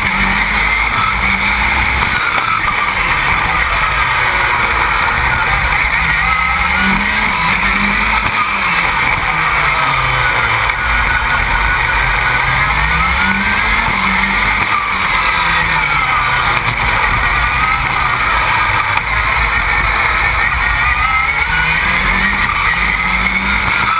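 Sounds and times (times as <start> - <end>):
engine revving under hard load: 0.0 - 23.9
wind and road noise: 0.0 - 23.9.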